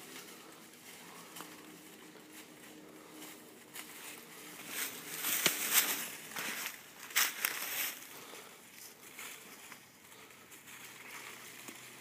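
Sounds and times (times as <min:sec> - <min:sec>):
hooves crunching through dry leaves: 0:00.0 - 0:12.0.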